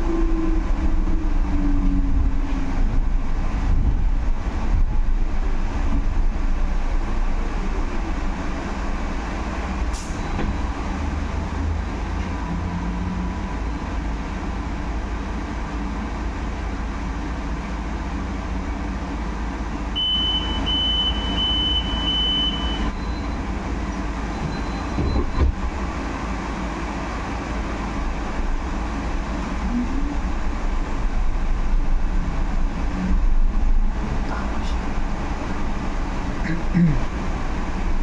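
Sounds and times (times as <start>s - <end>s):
bus rumbling on the road: 0.0s - 38.0s.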